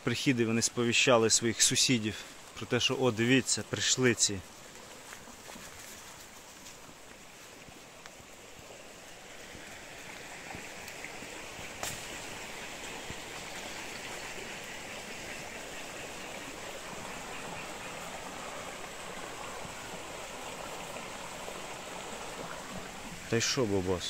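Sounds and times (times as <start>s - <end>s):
rushing river water: 0.0s - 24.0s.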